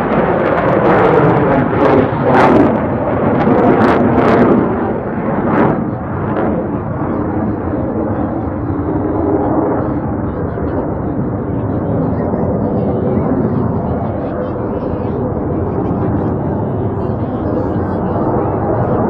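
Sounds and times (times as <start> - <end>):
jet engine crackles: 0.0 - 19.0
jet engines roaring: 0.0 - 19.0.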